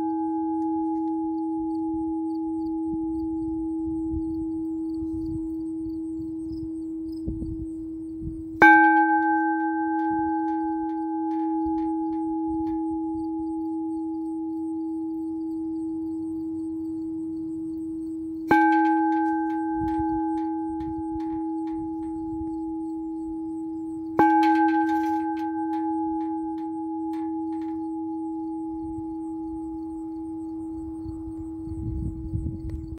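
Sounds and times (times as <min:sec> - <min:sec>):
deep metal bell strikes: 0:00.0 - 0:32.9
high overtone humming: 0:00.0 - 0:32.9.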